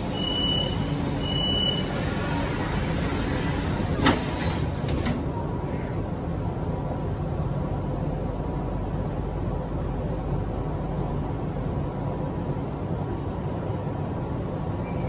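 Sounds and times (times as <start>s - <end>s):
subway doors sliding shut: 0.0s - 15.0s
train car hum and rumble: 0.0s - 15.0s.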